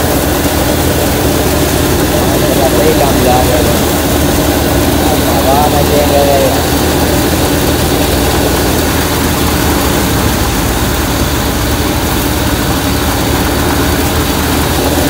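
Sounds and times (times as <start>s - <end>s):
grain thresher running: 0.0s - 15.0s
tractor engine humming: 0.0s - 15.0s.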